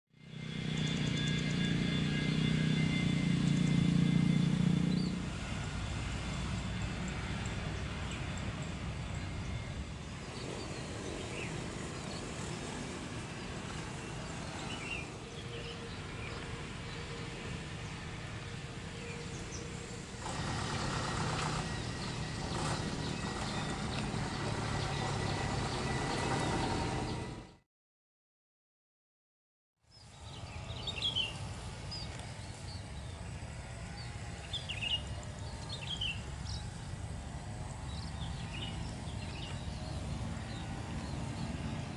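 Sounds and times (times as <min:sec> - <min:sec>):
distant jet engines rumbling: 0:00.2 - 0:27.6, 0:29.9 - 0:41.9.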